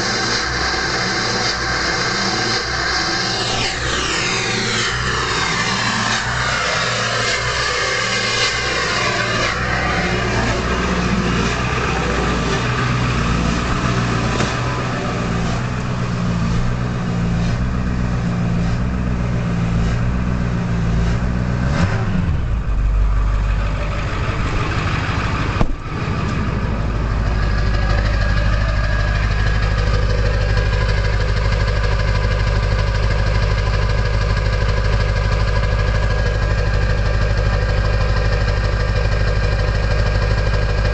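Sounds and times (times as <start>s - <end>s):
diesel engine high idle: 0.0s - 40.9s
loud exhaust whistling: 0.0s - 40.9s.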